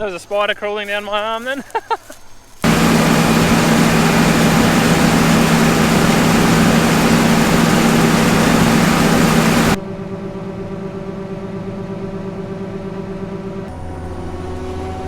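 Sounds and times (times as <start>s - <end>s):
combine harvester running: 2.6s - 14.7s.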